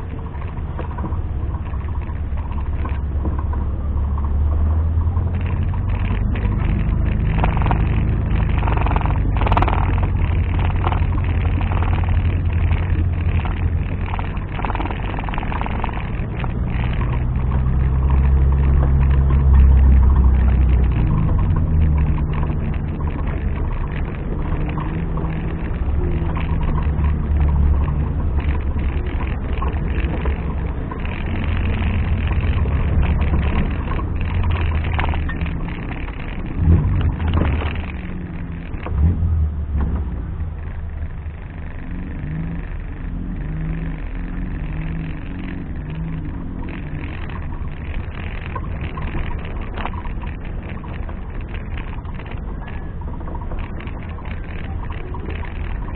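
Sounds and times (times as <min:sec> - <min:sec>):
off-road engine under load: 0:00.0 - 0:55.9.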